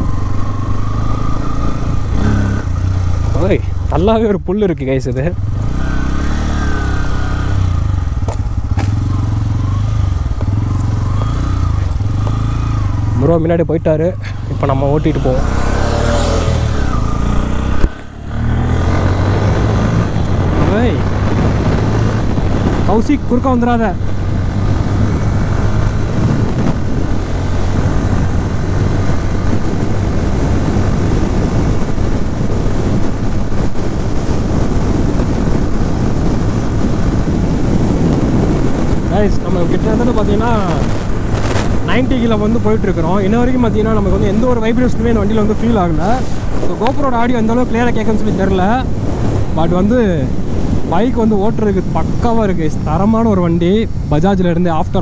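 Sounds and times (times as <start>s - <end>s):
motorcycle engine running: 0.0s - 4.5s, 5.1s - 51.0s
wind rushing over microphone: 0.0s - 55.0s.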